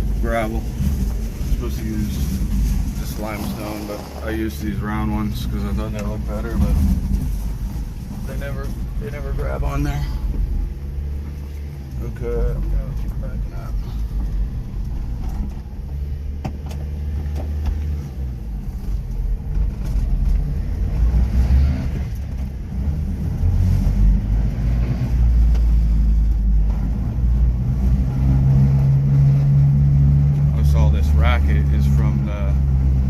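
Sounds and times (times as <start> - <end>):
tires rumbling on road: 0.0 - 33.0.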